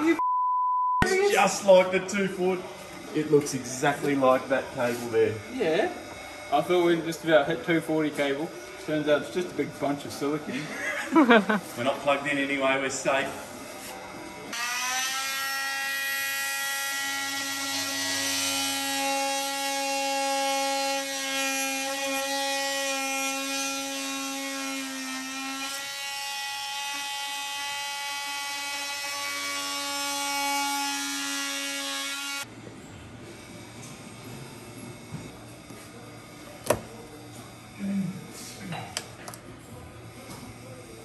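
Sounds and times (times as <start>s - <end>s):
oscillating multi-tool buzzing: 1.5s - 11.8s, 12.4s - 32.5s, 33.2s - 39.2s.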